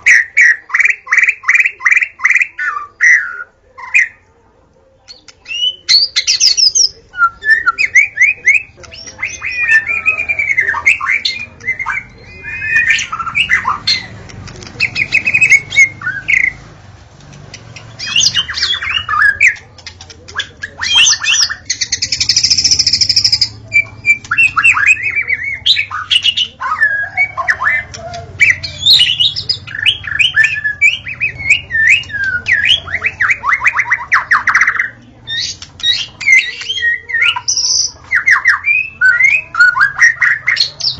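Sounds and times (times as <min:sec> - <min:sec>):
bird singing: 0:00.0 - 0:04.3, 0:05.0 - 0:40.9.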